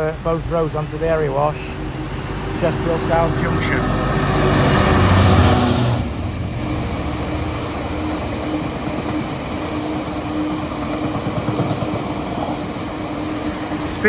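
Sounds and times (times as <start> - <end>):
diesel locomotive engine: 0.0 - 14.0
train wagons rumbling: 0.0 - 14.0.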